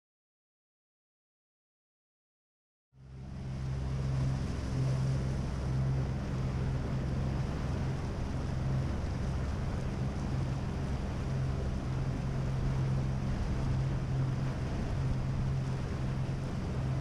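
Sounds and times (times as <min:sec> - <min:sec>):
motorboat engine humming: 0:03.0 - 0:17.0
rushing wake water: 0:03.0 - 0:17.0
wind on microphone: 0:03.2 - 0:17.0.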